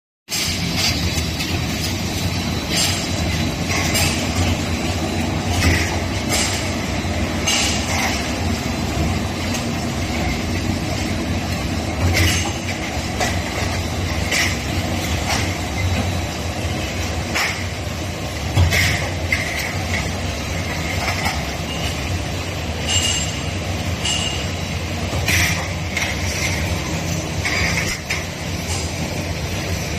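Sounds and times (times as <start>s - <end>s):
metallic clanks and squeaks: 0.3s - 17.8s, 18.5s - 29.1s
roll forming machine humming: 0.3s - 29.9s.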